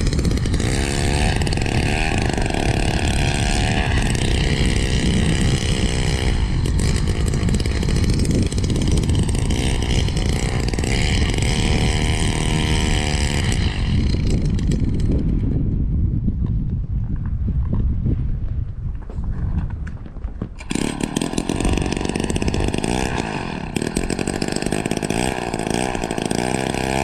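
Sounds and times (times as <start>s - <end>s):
ice auger engine drilling: 0.0s - 15.5s, 20.6s - 27.0s.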